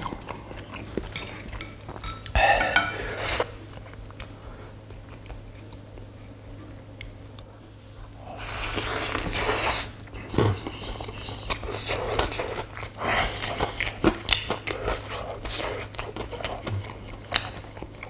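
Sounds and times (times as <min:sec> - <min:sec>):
chewing fried chicken: 0:00.0 - 0:18.0.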